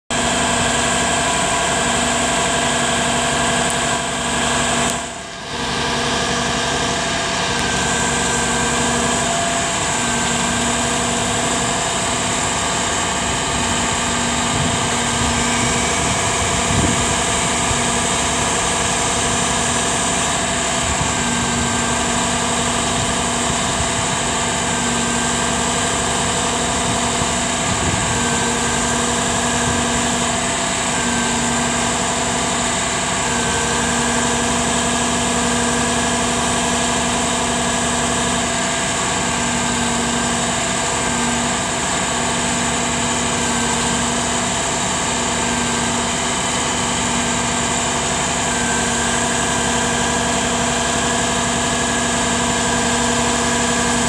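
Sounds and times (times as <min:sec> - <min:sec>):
diesel truck engine running: 0:00.0 - 0:54.0
hydraulic grapple loader: 0:00.1 - 0:54.0.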